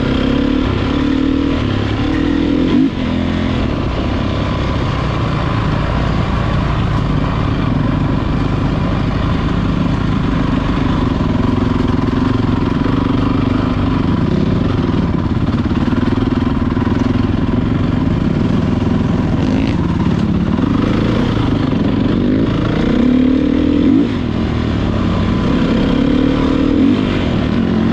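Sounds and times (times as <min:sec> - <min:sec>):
motorcycle engines revving: 0:00.0 - 0:27.9.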